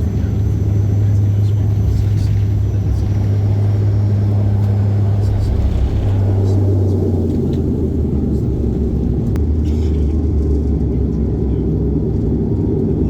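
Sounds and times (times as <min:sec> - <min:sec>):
turboprop engine drone in cabin: 0:00.0 - 0:13.0.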